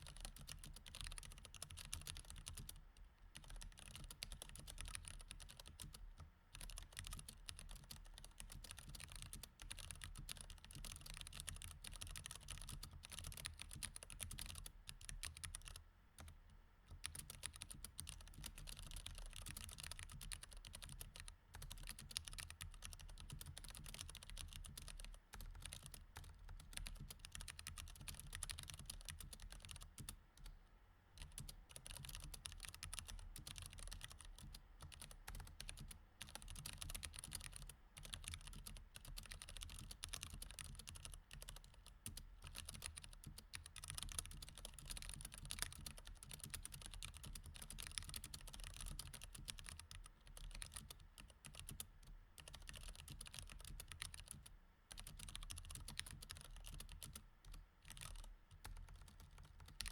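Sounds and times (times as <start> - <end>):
mechanical keyboard typing: 0.0 - 2.8, 3.4 - 6.0, 6.6 - 16.3, 17.0 - 30.5, 31.2 - 59.9.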